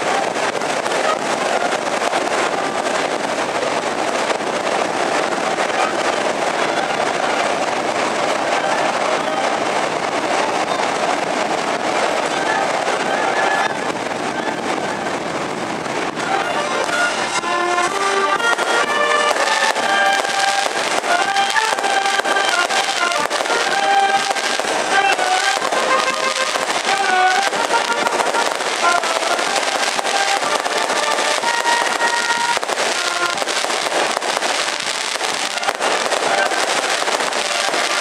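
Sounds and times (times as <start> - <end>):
firecrackers crackling: 0.0 - 38.0
marching band playing: 0.0 - 38.0.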